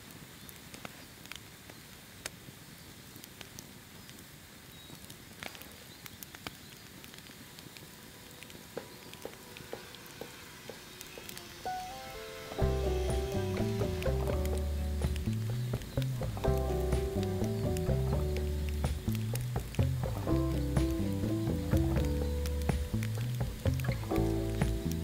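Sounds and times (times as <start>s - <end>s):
campfire crackling: 0.0s - 25.0s
faint steady hiss: 0.0s - 25.0s.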